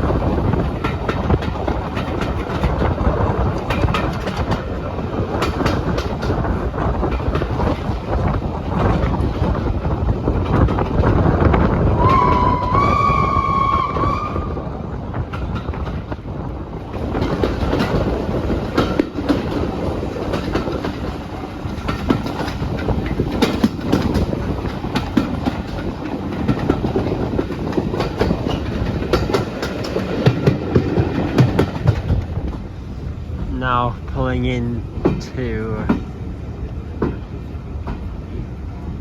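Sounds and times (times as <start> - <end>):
wheels clicking over rail joints: 0.0 - 38.9
train wheels rumbling: 0.0 - 39.0.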